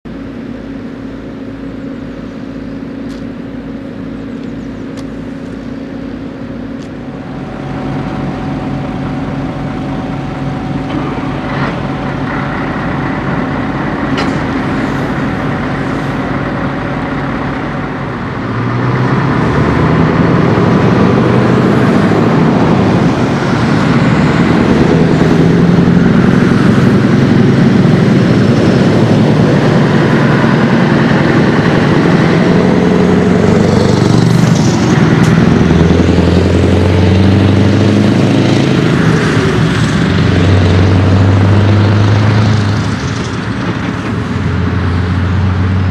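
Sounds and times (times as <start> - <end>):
diesel truck engine: 0.0 - 45.9.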